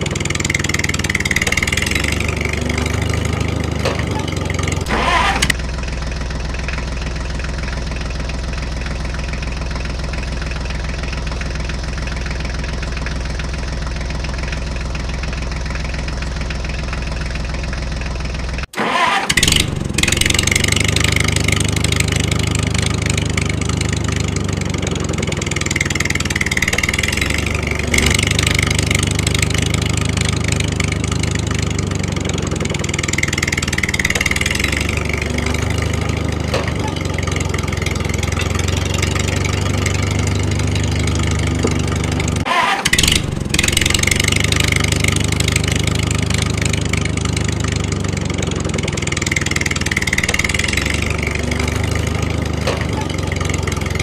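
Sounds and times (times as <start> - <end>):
engine running: 0.0 - 54.0
engine starting up: 0.0 - 54.0.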